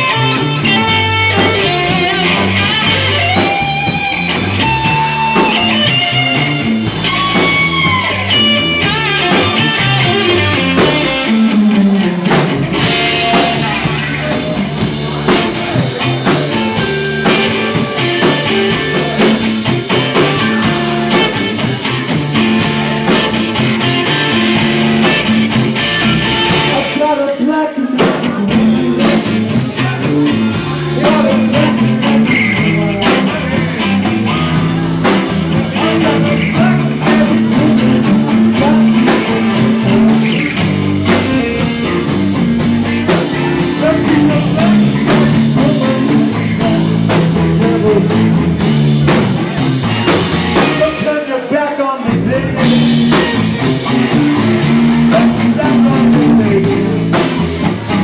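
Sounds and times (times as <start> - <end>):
electric guitar lead: 0.0 - 58.0
live rock band playing: 0.0 - 58.0.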